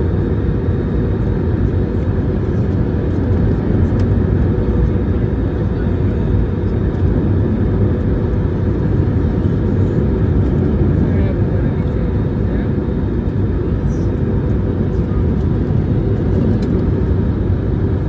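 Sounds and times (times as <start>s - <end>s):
jet cabin engine and airflow noise: 0.0s - 18.0s.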